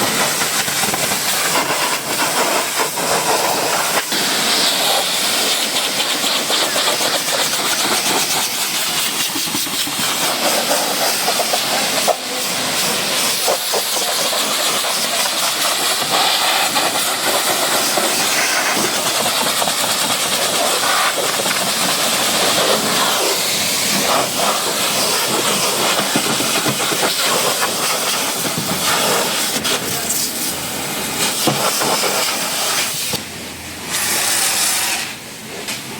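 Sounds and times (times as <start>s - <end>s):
pressure washer spraying water: 0.0s - 35.9s.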